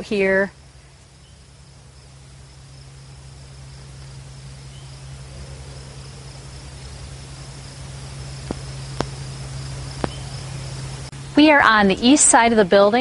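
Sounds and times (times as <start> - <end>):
insect chorus trilling: 0.0 - 11.6
low hum: 0.0 - 13.0.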